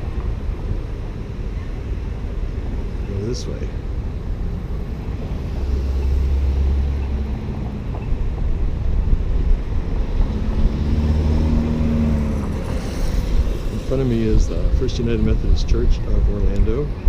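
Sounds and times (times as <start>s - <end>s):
passing traffic engine hum: 0.0s - 17.0s
wind rumbling on microphone: 0.0s - 17.0s.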